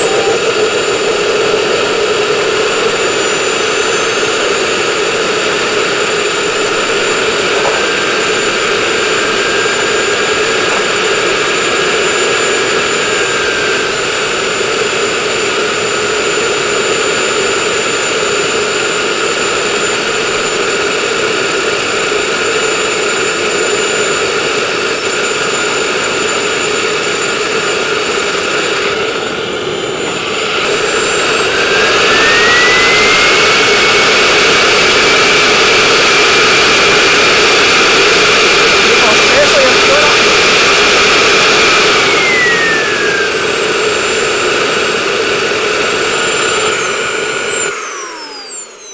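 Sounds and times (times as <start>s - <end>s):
model jet turbines whining: 0.0s - 48.9s.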